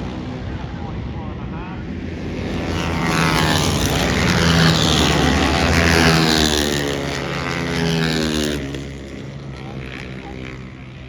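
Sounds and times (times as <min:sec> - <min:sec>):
engine running at high revs: 0:00.0 - 0:11.0
shifting whine: 0:00.0 - 0:11.0.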